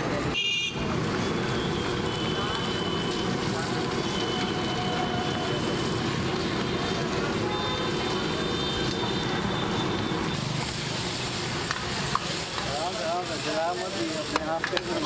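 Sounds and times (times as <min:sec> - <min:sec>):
gas burner flame: 0:00.0 - 0:15.0
vegetables sizzling in a wok: 0:00.0 - 0:15.0.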